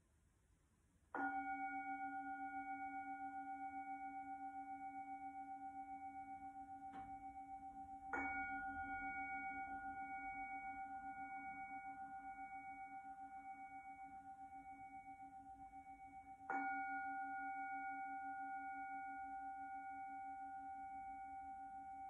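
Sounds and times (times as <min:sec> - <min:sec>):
singing bowl struck and ringing: 0:01.2 - 0:22.0.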